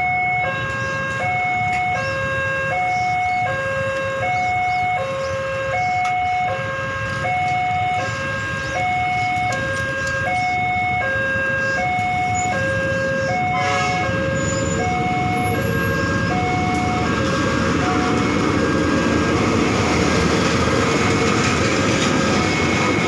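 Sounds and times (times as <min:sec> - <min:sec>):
level crossing two-tone alarm: 0:00.0 - 0:20.2
diesel locomotive rumble: 0:00.0 - 0:23.0.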